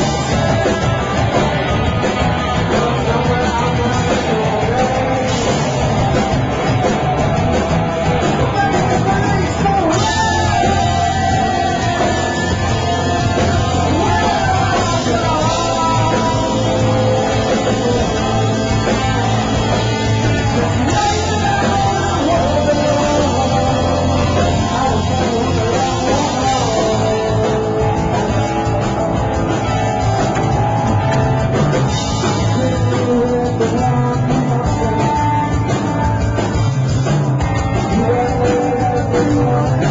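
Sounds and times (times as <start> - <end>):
rock band playing live: 0.0 - 39.9
person singing: 2.4 - 29.4, 32.1 - 36.1, 37.6 - 39.9.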